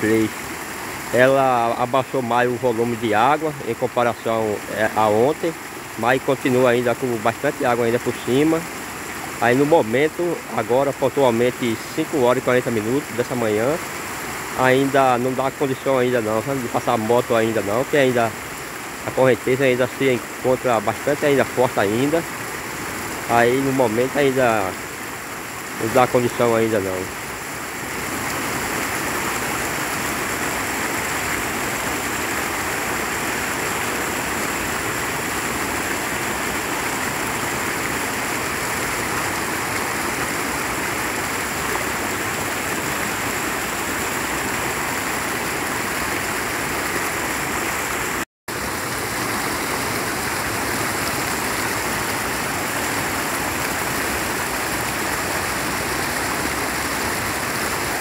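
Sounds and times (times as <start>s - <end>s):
floodwater rushing over concrete: 0.0s - 58.0s.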